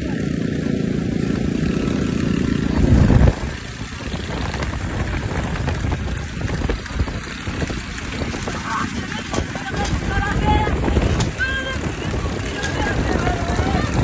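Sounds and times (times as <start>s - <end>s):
low road rumble: 0.0s - 14.0s
wind buffeting microphone: 1.2s - 14.0s.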